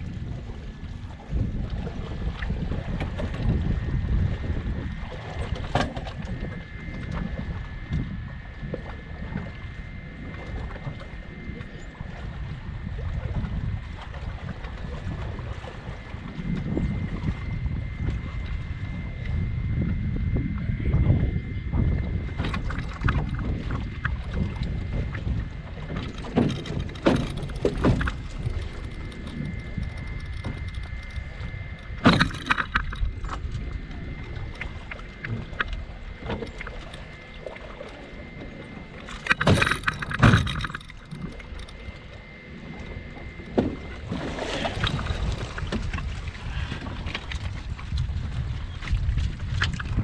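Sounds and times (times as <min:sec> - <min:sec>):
water splashing against hull: 0:00.0 - 0:50.0
wind buffeting microphone: 0:00.0 - 0:50.0.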